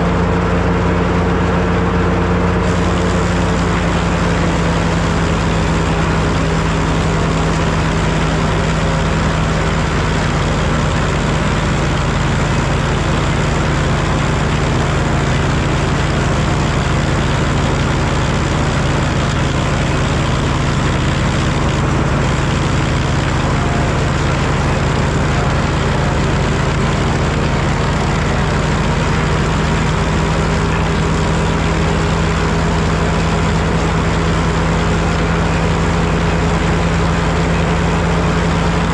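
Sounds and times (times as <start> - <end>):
tractor engine running: 0.0 - 38.9
wood planer machinery turning: 0.0 - 38.9.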